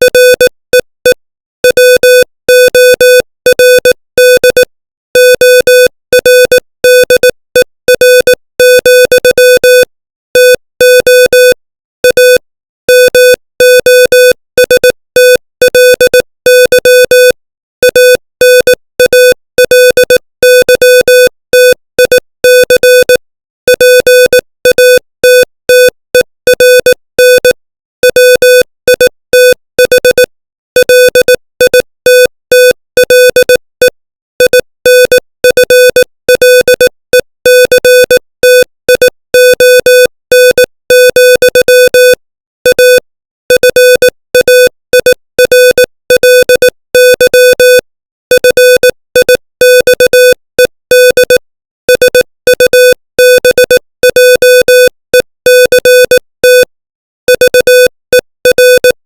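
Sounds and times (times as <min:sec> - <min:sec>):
morse code beeps: 0:00.0 - 0:56.7, 0:57.3 - 0:59.0.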